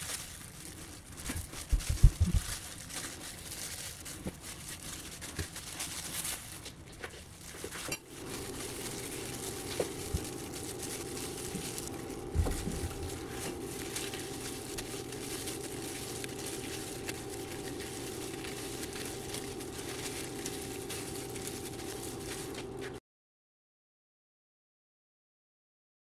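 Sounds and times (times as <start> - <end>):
steady low hum: 0.2 - 3.6, 4.2 - 23.0.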